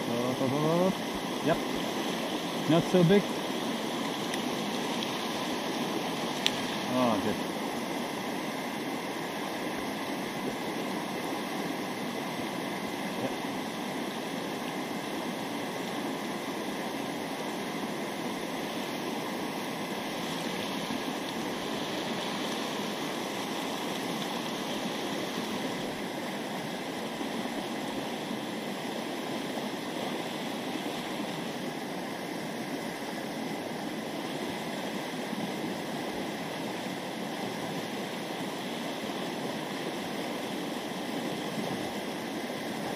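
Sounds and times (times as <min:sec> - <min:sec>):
river water running over rocks: 0:00.0 - 0:42.9.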